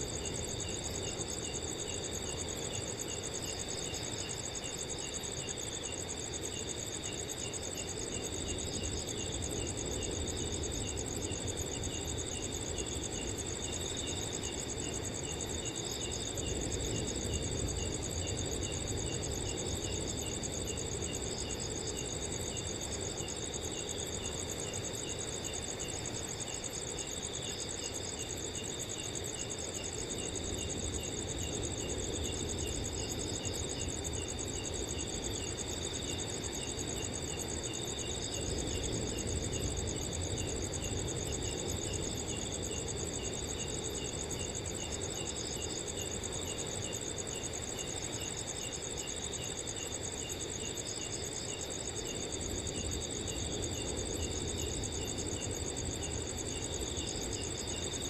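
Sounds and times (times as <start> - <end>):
cricket chirping steadily: 0.0 - 58.0
crickets trilling: 0.0 - 58.0.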